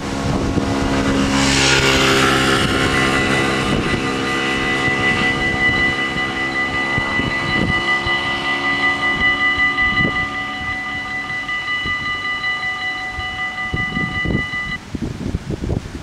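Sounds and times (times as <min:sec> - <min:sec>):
level crossing bells ringing: 0:00.6 - 0:14.8.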